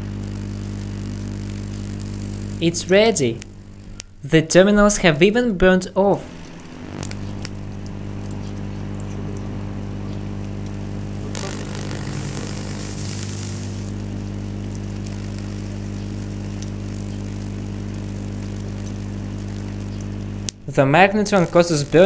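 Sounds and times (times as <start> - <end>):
sizzling hiss: 0.0 - 5.2, 6.2 - 8.6, 10.3 - 22.0
transformer mains buzz: 0.0 - 22.0.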